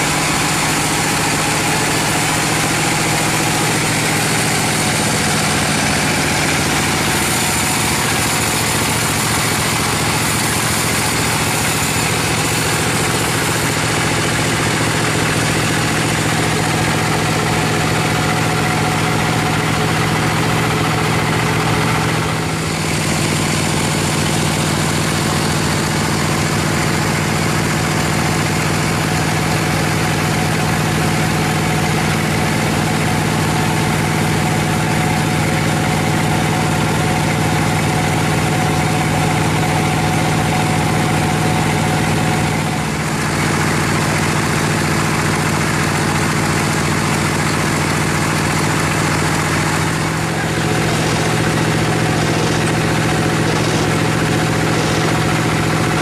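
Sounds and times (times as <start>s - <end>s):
bandsaw machine drone: 0.0s - 56.0s.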